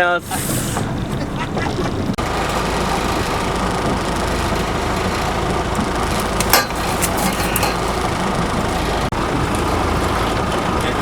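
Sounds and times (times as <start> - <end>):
boat engine running: 0.6 - 11.0.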